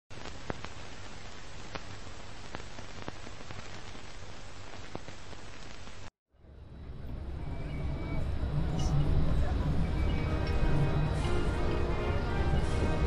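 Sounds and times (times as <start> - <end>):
old film crackle and hiss: 0.1 - 6.1, 8.4 - 13.0
low outdoor ambience: 0.1 - 13.0.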